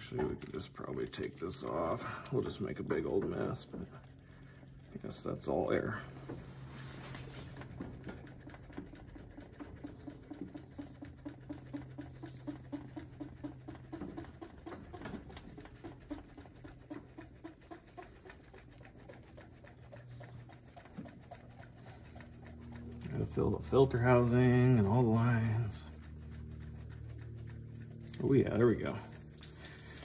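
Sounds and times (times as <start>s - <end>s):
hand priming pump strokes: 0.0s - 30.0s
steady low hum: 0.0s - 30.0s.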